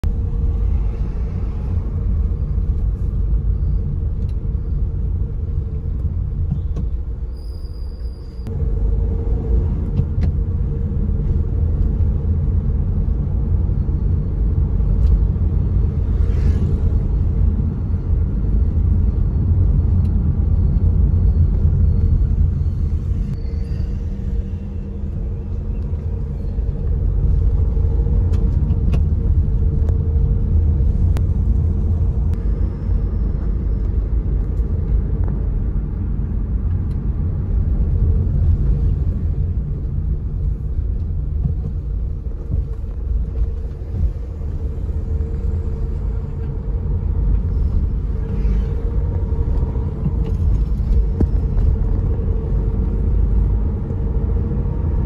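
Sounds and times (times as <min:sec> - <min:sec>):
car cabin road and engine rumble: 0:00.0 - 0:55.0
constant hum: 0:00.0 - 0:55.0.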